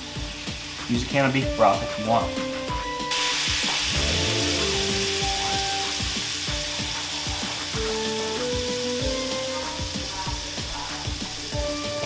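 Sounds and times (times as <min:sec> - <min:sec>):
sauce sizzling and bubbling in a skillet: 0:00.0 - 0:12.0.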